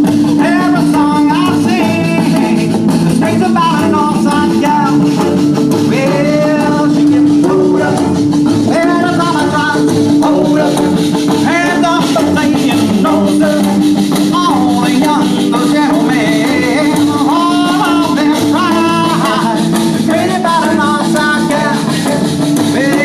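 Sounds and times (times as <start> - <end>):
drums: 0.0 - 23.0
guitar: 0.0 - 23.0
person singing: 0.0 - 23.0.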